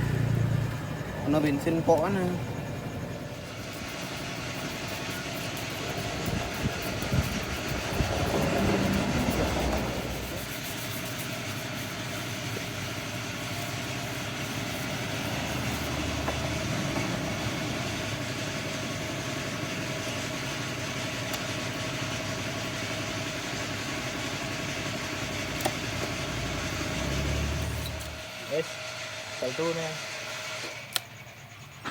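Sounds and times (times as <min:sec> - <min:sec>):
scooter engine idling: 0:00.0 - 0:29.9, 0:31.0 - 0:31.9.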